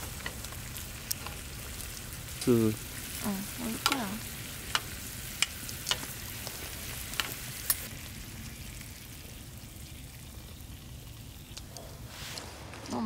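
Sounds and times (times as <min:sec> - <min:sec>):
meat sizzling in a grill pan: 0:00.0 - 0:11.6.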